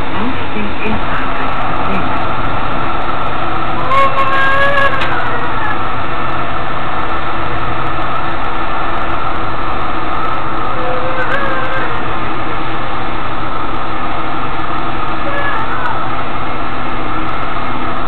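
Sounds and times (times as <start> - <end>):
pitched whine with overtones: 0.0 - 18.0
tram running noise: 0.0 - 18.0.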